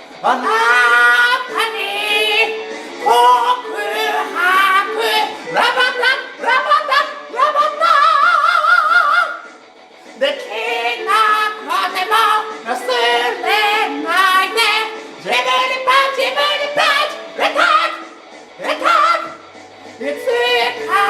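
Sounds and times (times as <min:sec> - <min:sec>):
backing track music: 0:00.0 - 0:21.0
high voice singing karaoke: 0:00.0 - 0:21.0.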